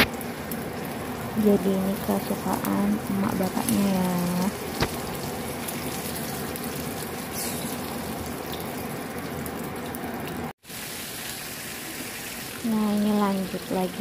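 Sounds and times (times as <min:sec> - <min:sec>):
beans sizzling in oil: 0:00.5 - 0:08.8, 0:10.6 - 0:14.0.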